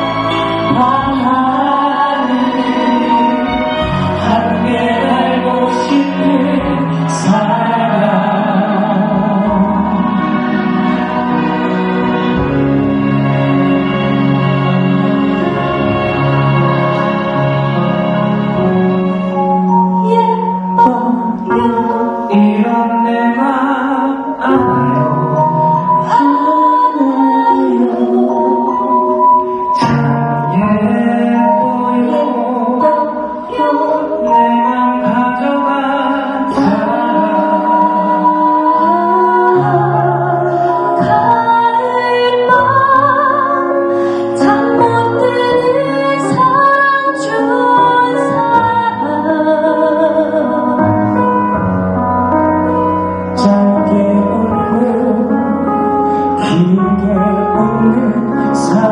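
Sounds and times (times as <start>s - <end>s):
woman singing: 0.0s - 11.0s, 19.7s - 51.7s, 53.3s - 58.9s
instrumental accompaniment: 0.0s - 58.9s
music with held melody notes: 0.0s - 58.9s.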